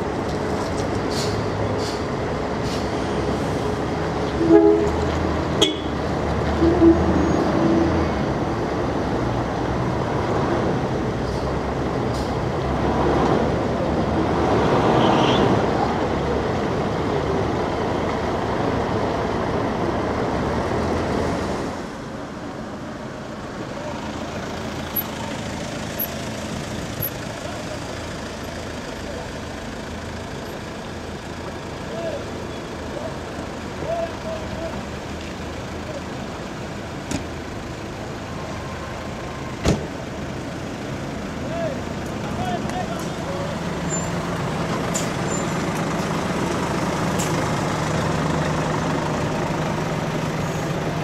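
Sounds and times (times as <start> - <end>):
diesel coach engine running: 0.0 - 14.9, 15.6 - 51.0
car moving off: 0.0 - 51.0
street traffic: 0.0 - 51.0.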